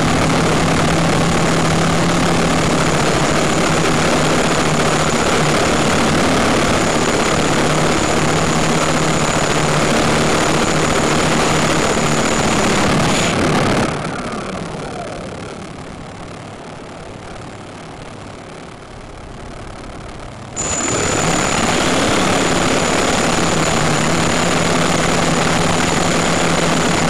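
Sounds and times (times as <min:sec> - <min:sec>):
drone motors and propellers: 0:00.0 - 0:27.0.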